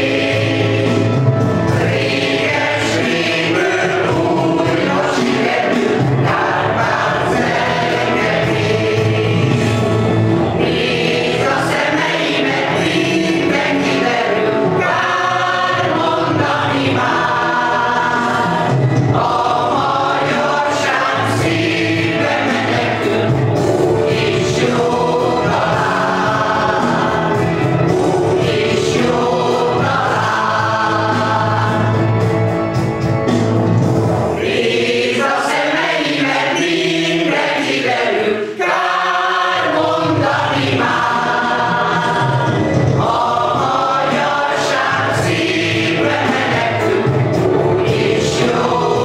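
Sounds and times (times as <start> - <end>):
mixed choir singing: 0.0 - 49.0.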